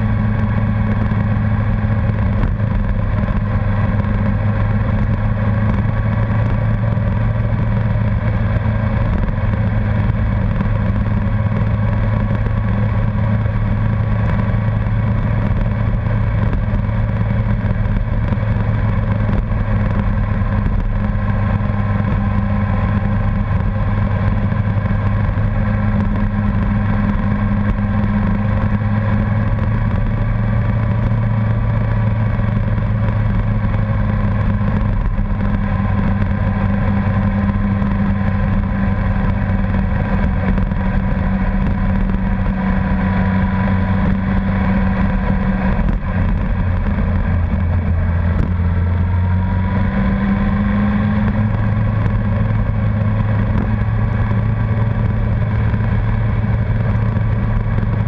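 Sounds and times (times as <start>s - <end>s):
motorcycle engine drone: 0.0s - 58.0s
road and air noise: 0.0s - 58.0s.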